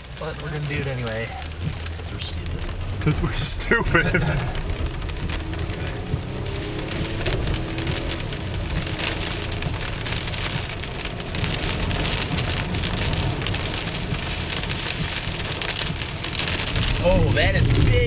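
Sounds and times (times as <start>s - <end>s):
heavy rain on car roof: 0.0s - 18.0s
tyres splashing through floodwater: 0.0s - 18.0s.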